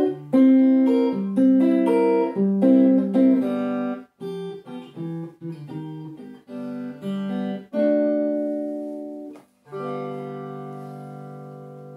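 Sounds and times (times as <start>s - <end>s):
cigar box guitar chords: 0.0s - 11.9s.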